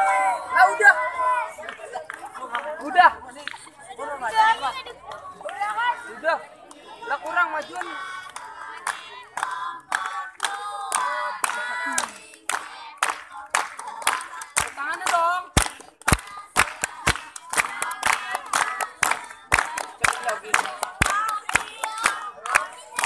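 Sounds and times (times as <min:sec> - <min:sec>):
hands clapping to a beat: 0:01.6 - 0:03.8, 0:06.6 - 0:23.0
group singing: 0:04.3 - 0:23.0.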